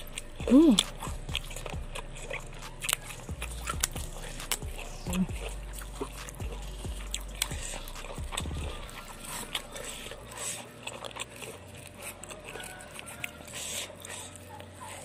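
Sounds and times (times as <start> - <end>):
wet chewing: 0.0 - 15.0
fingers scraping food on plate: 0.9 - 15.0.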